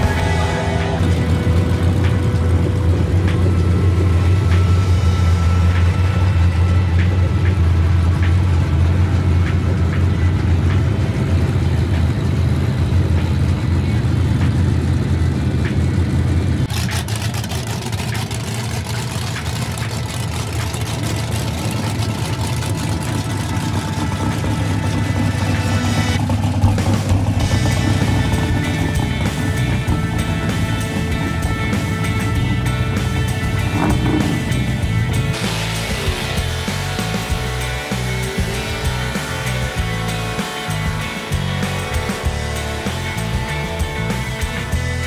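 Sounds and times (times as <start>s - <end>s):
race car engines idling: 0.0s - 45.0s.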